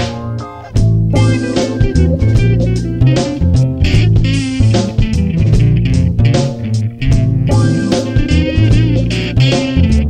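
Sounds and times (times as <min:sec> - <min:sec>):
guitar music with bass and drums: 0:00.0 - 0:10.0.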